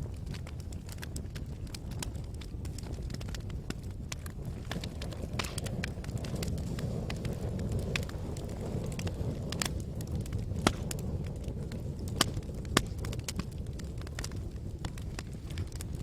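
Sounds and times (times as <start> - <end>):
fire crackling: 0.0 - 16.0
fire flames rumbling: 0.0 - 16.0
loud fire pops: 0.0 - 16.0.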